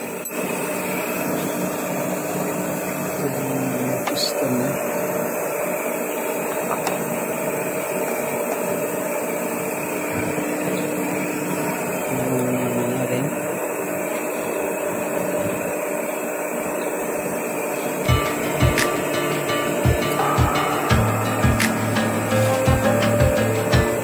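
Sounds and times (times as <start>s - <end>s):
boring machine running: 0.0s - 24.0s.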